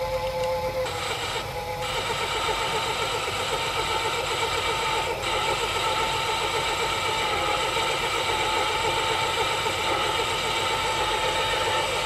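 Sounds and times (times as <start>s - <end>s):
lathe motor whining: 0.0s - 12.0s.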